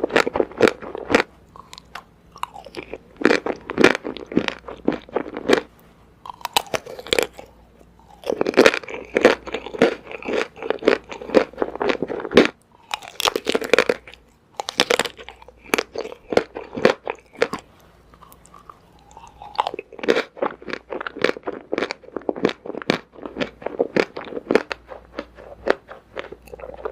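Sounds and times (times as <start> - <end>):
crunchy chewing of ice cream bars: 0.0 - 26.9.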